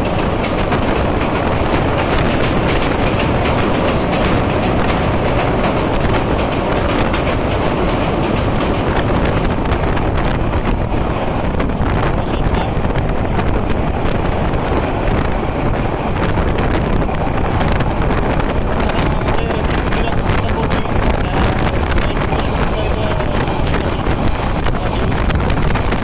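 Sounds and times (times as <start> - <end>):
train running on track: 0.0 - 26.0
wind rushing over microphone: 0.0 - 26.0.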